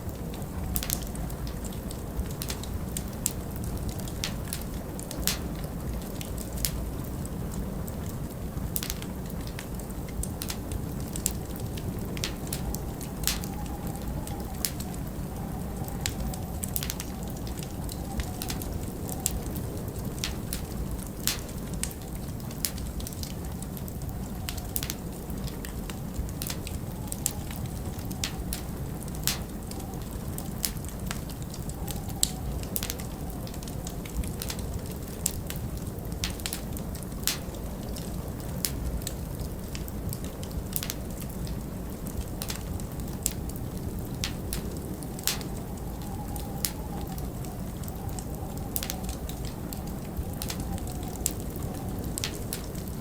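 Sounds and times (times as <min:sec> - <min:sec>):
blizzard wind howling: 0:00.0 - 0:53.0
wood fire crackling: 0:00.0 - 0:53.0.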